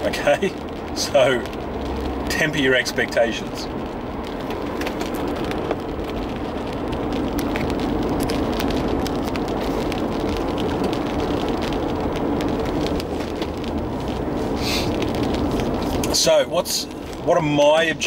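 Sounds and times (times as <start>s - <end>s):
low rumble: 0.0s - 18.0s
rain on car roof: 0.0s - 18.0s.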